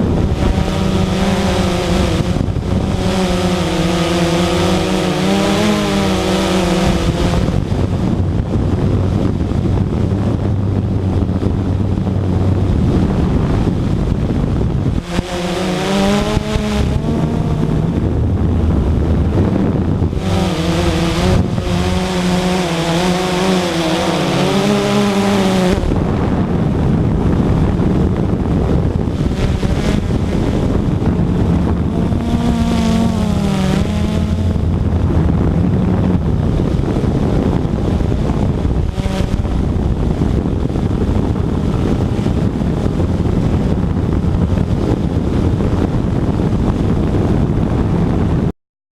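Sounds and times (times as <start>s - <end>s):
model aircraft motor: 0.0s - 47.8s
wind noise on microphone: 0.0s - 48.5s.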